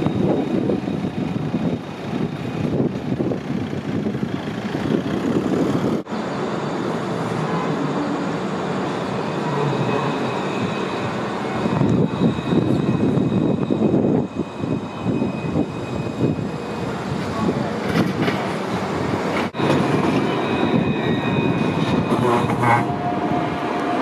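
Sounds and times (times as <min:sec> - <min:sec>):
tram rumbling on track: 0:00.0 - 0:24.0.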